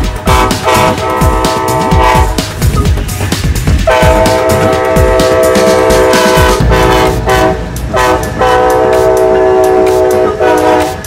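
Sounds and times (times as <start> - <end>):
train rumbling: 0.0 - 11.0
locomotive air horn blasts: 0.2 - 2.5, 3.8 - 11.0.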